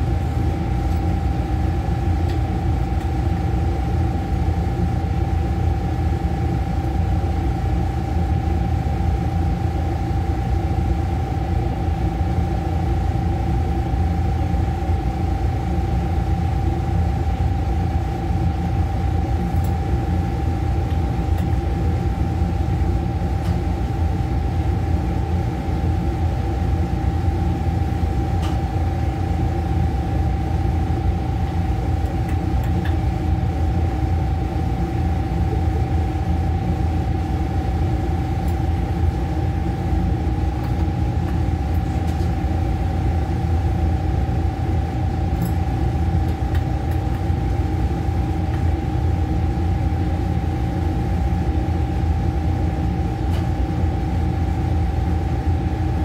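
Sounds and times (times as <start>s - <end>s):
machinery hum with high whine: 0.0s - 56.0s.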